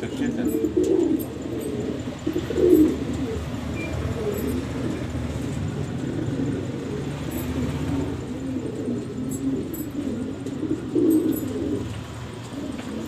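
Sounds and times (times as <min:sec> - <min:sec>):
pigeon cooing: 0:00.0 - 0:13.0.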